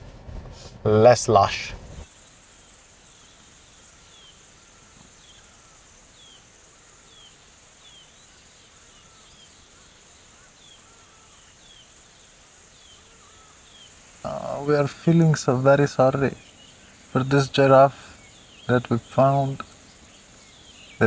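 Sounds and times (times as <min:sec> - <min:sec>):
faint low bird calls: 0:01.6 - 0:21.0
high insect buzz: 0:02.0 - 0:21.0.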